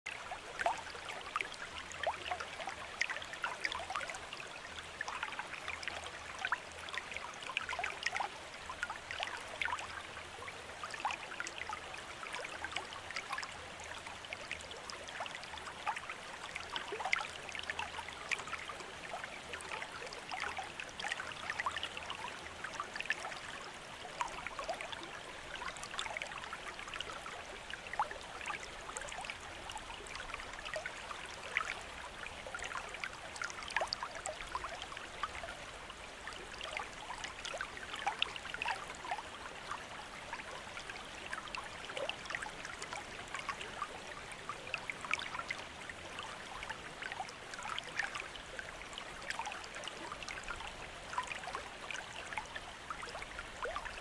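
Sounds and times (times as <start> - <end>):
water drips and splashes: 0.1 - 54.0.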